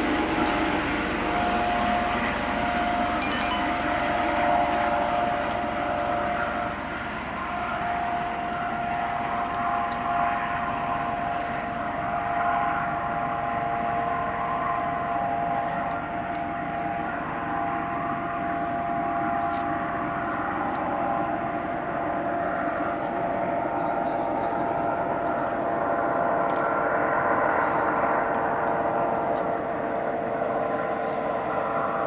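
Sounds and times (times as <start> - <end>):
helicopter engine and rotor: 0.1 - 32.0.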